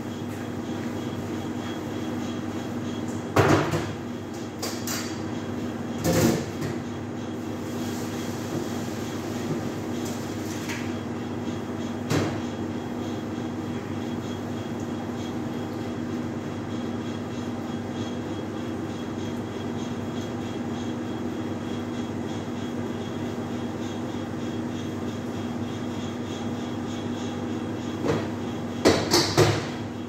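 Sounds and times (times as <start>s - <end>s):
kitchen ventilation humming: 0.0s - 30.0s.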